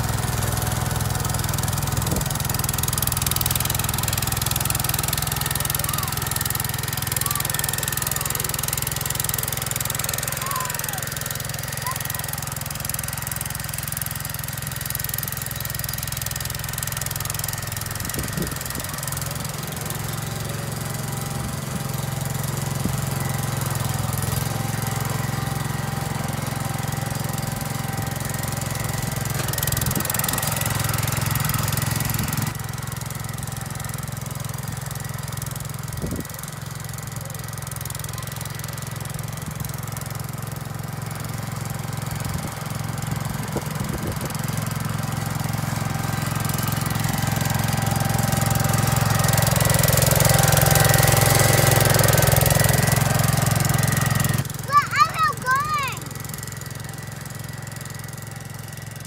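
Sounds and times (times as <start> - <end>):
snow thrower whine: 0.0 - 59.0
tractor engine drone: 0.0 - 59.0.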